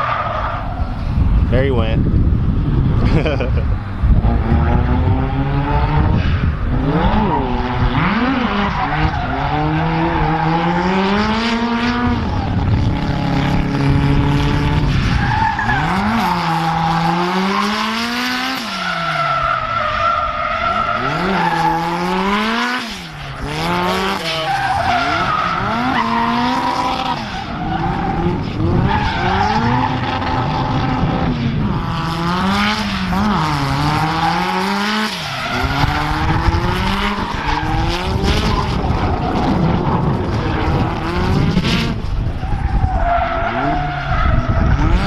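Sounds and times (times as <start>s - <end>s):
engine revving: 4.2s - 14.9s, 15.6s - 19.1s, 20.7s - 42.2s, 44.4s - 45.0s.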